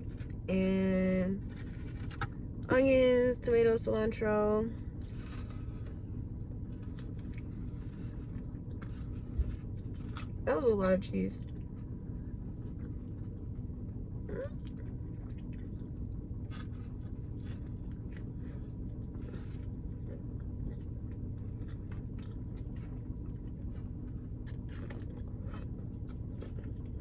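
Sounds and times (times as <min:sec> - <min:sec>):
steady low hum: 0:00.0 - 0:27.0
person chewing food: 0:01.4 - 0:02.3, 0:05.0 - 0:10.4, 0:11.4 - 0:27.0.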